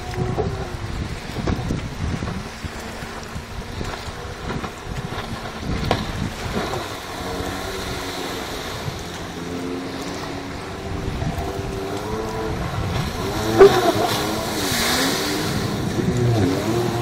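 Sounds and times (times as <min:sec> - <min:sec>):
distant jet ski engine: 0:00.0 - 0:17.0
wind buffeting microphone: 0:00.0 - 0:17.0.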